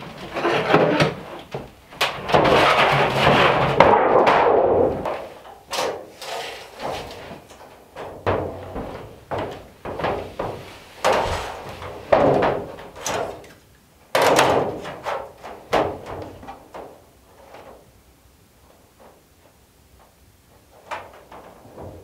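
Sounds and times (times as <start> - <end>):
thumps and bangs on copper sheet: 0.0 - 17.7, 20.8 - 22.0.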